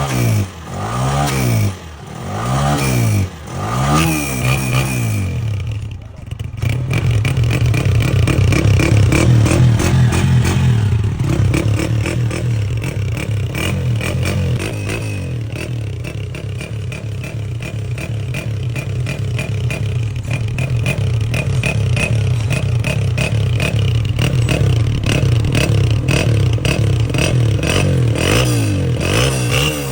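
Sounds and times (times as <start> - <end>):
vehicle engine clattering: 0.0 - 29.9.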